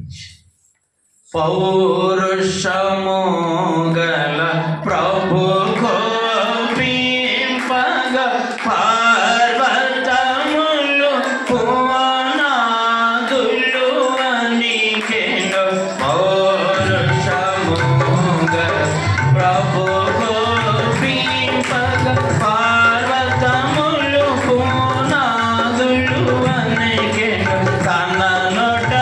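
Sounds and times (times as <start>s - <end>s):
man singing: 1.3s - 29.0s.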